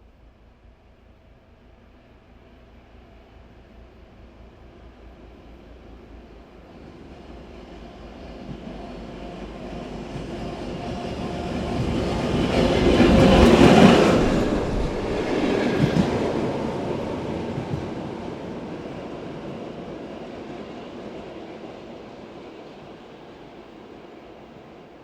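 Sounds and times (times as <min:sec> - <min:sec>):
diesel locomotive passing: 0:02.0 - 0:23.8.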